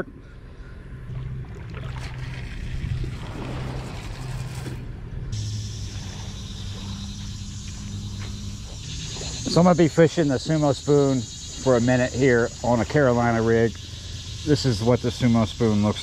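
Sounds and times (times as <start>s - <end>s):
boat engine drone: 0.0s - 16.0s
insects buzzing: 0.0s - 16.0s.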